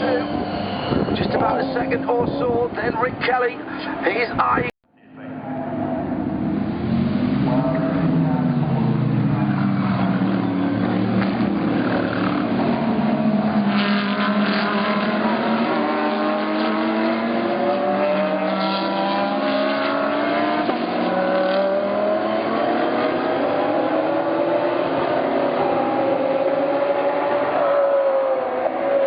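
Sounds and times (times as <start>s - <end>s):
race car engines accelerating: 0.0s - 4.4s, 5.0s - 29.0s.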